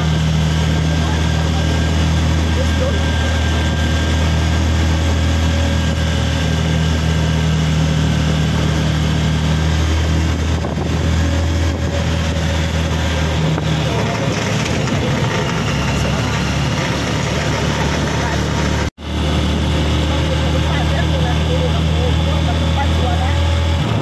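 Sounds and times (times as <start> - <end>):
road noise: 0.0 - 24.0
vehicle engine drone: 0.0 - 24.0.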